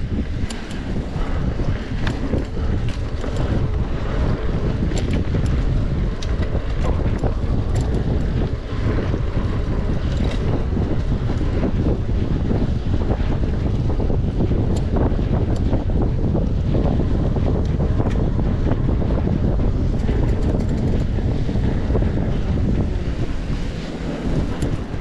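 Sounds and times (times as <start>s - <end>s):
bike clicks and rattles: 0.0s - 25.0s
wind rushing over microphone: 0.0s - 25.0s.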